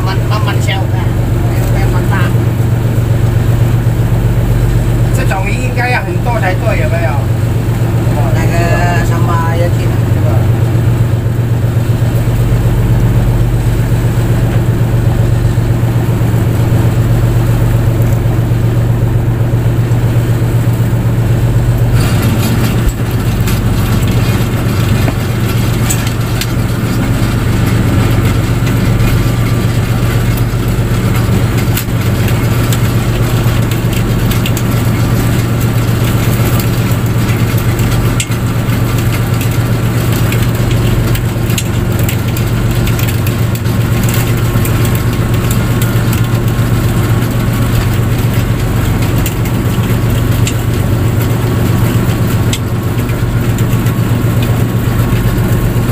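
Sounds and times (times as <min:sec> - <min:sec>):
boat engine low hum: 0:00.0 - 0:55.9
hissing rattling noise: 0:10.5 - 0:55.9.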